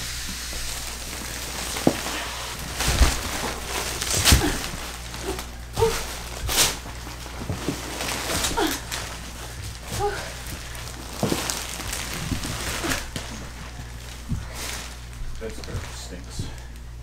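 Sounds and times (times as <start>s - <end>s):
sharp crackles or thumps: 0.1s - 16.6s
plastic wrapping crinkling: 0.1s - 17.0s.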